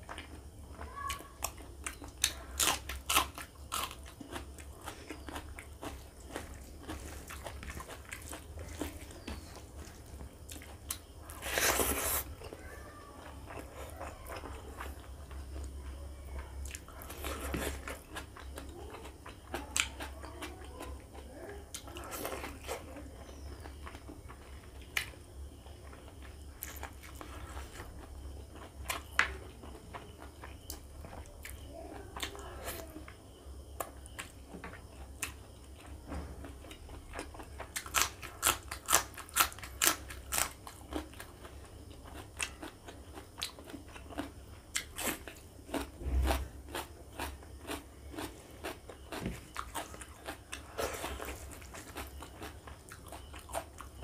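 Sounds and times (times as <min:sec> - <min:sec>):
food crunching: 0:00.0 - 0:54.0
person chewing: 0:01.1 - 0:12.6, 0:13.2 - 0:15.7, 0:16.6 - 0:20.6, 0:25.8 - 0:31.6, 0:33.8 - 0:54.0.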